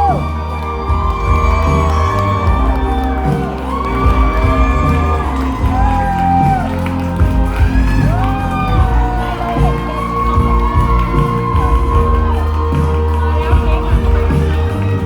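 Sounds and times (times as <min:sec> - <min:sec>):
crowd whooping: 0:00.0 - 0:15.0
live band music: 0:00.0 - 0:15.0.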